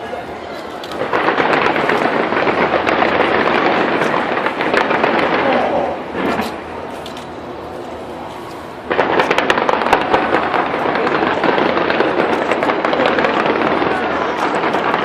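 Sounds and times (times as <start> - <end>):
fireworks bangs and crackling: 0.0 - 15.0
fireworks rumble: 0.0 - 15.0.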